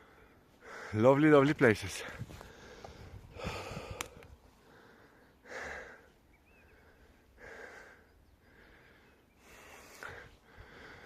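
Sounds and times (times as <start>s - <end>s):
man breathing hard: 0.0s - 1.0s, 2.1s - 11.0s.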